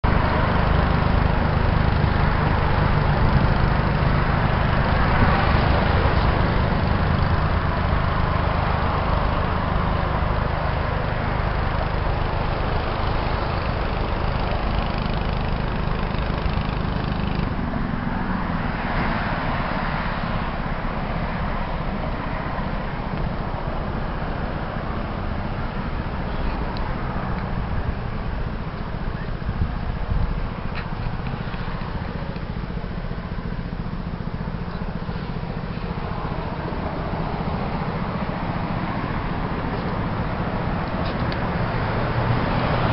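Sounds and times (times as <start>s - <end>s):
engine and traffic rumble: 0.0s - 42.9s.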